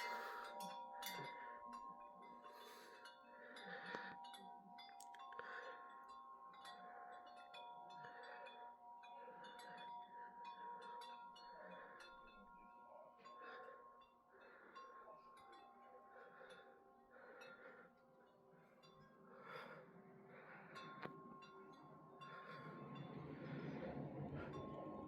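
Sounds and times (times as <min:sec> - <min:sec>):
wind chimes ringing: 0:00.0 - 0:25.0.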